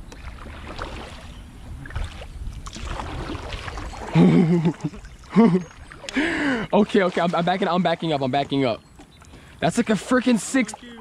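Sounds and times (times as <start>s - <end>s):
kayak paddling in water: 0.0s - 11.0s.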